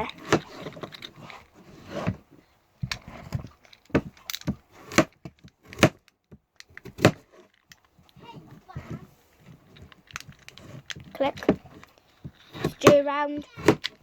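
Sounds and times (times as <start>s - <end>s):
handling rustle: 0.0s - 14.0s.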